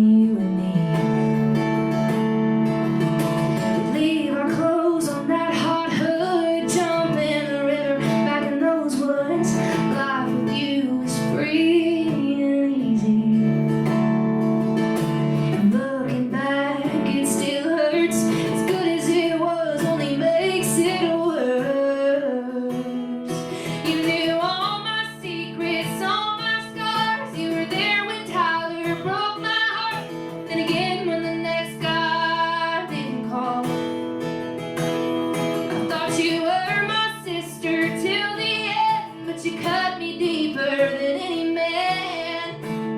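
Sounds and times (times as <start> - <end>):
woman singing: 0.0 - 1.6, 3.6 - 14.2, 15.4 - 34.1, 35.7 - 42.9
strummed acoustic guitar: 0.0 - 42.9.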